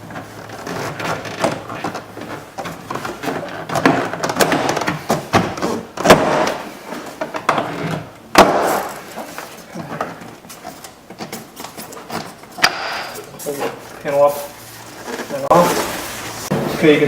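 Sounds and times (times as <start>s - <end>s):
plastic panel creaking and scraping: 0.0s - 8.2s, 8.9s - 17.0s.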